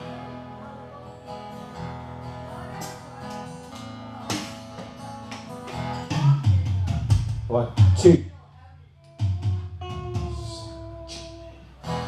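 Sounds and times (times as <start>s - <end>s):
guitar playing: 0.0s - 8.0s, 9.1s - 12.0s
guitar chords strummed: 0.0s - 8.2s, 9.2s - 12.0s.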